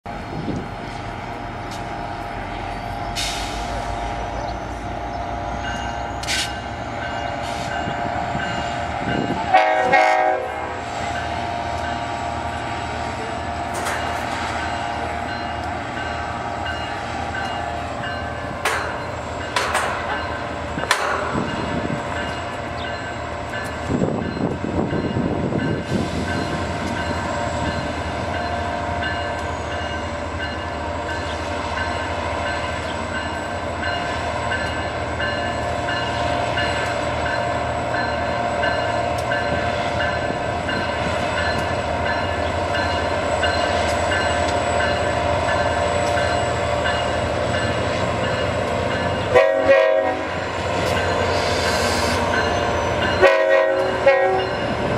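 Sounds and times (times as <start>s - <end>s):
diesel locomotive rumble: 0.0s - 54.9s
locomotive whine: 0.1s - 54.9s.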